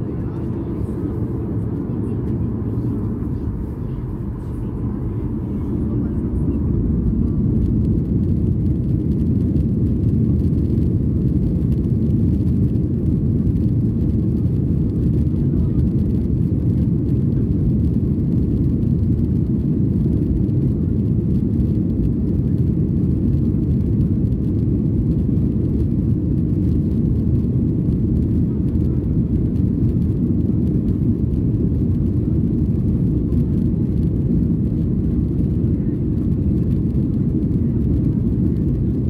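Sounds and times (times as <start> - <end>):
airliner cabin rumble: 0.0 - 39.0.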